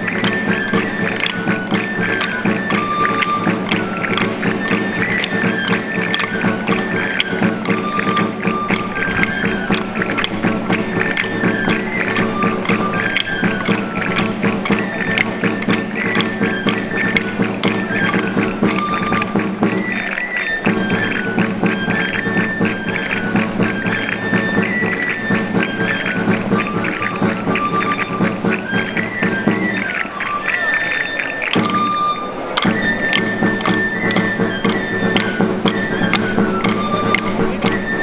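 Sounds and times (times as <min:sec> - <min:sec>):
fast drum strokes: 0:00.0 - 0:38.0
high pipe melody: 0:00.0 - 0:38.0
low accompaniment: 0:00.0 - 0:38.0.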